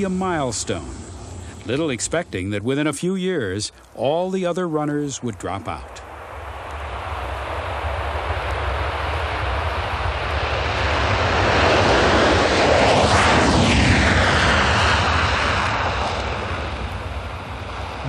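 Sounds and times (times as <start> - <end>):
jet aircraft flying past: 0.0 - 3.7, 4.5 - 18.0.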